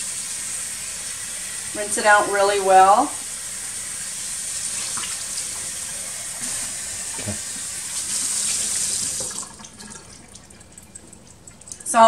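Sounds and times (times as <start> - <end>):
faucet running: 0.0 - 12.0.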